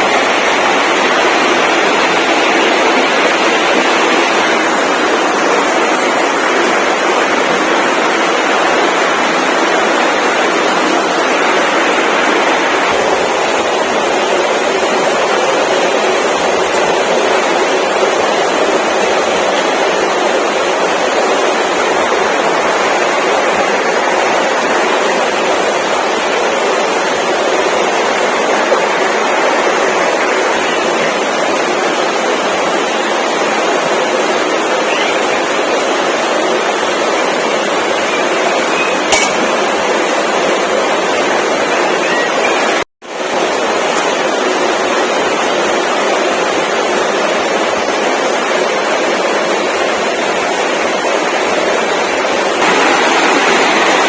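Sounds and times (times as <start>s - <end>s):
steady rushing noise: 0.0s - 49.8s.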